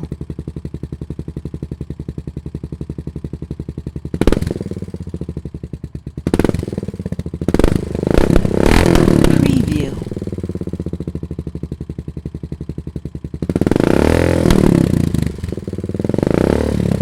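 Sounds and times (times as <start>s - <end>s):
motorcycle engine idling: 0.0s - 17.0s
motorcycle engine revving: 0.0s - 17.0s.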